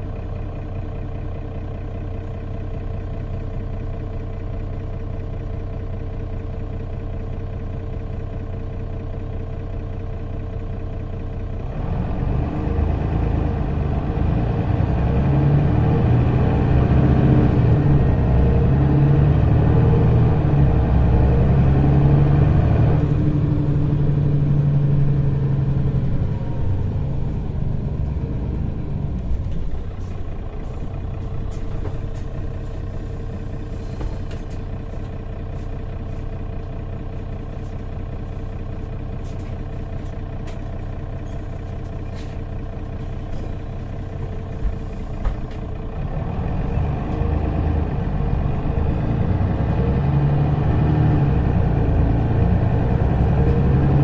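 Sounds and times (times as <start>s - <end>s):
bus engine: 0.0s - 54.0s.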